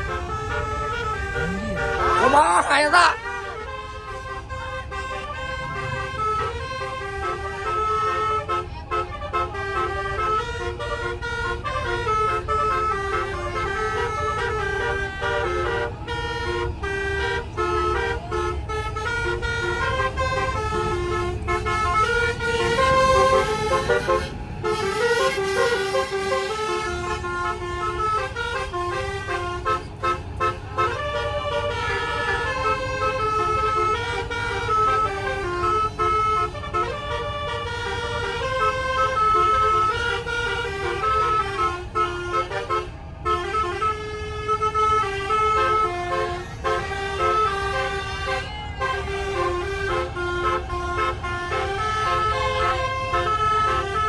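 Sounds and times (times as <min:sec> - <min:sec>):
bus air horn playing a tune: 0:00.0 - 0:54.0
bus engine rumble: 0:00.0 - 0:54.0.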